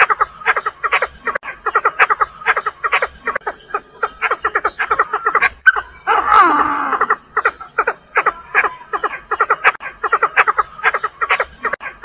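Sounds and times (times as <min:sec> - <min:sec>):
francolin clucking calls: 0:00.0 - 0:12.0.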